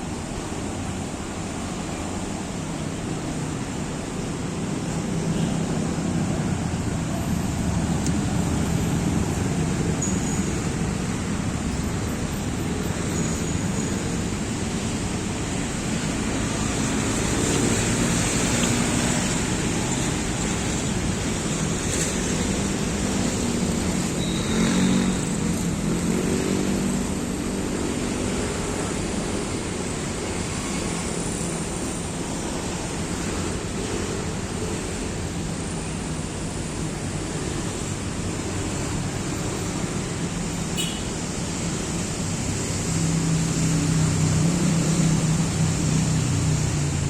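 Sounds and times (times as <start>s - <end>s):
distant city traffic: 0.0s - 47.0s.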